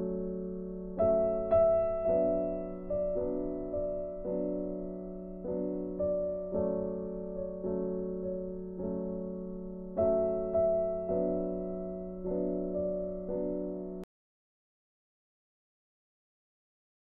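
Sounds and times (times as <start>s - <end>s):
gentle piano chords: 0.0s - 14.1s.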